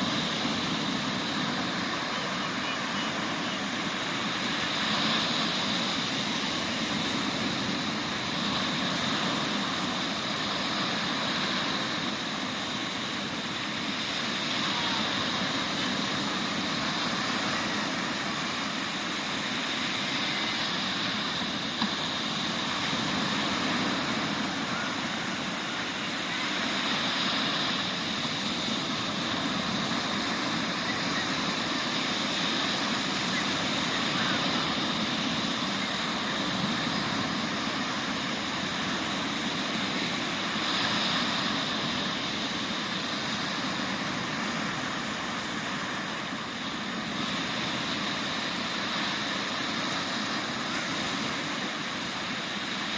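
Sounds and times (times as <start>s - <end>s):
sea waves breaking on a beach: 0.0s - 52.9s.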